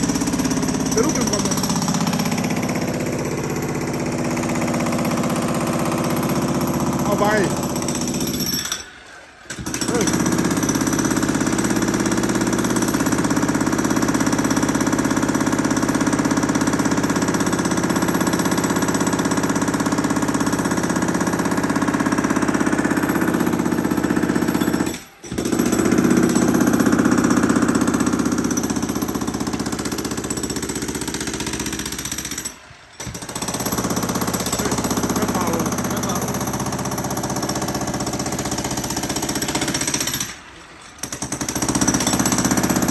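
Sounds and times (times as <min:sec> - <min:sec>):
jackhammer breaking concrete: 0:00.0 - 0:42.9.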